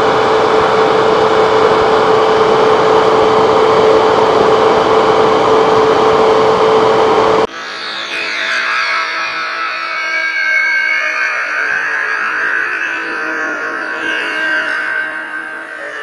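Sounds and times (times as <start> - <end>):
machine-like hum: 0.0 - 16.0.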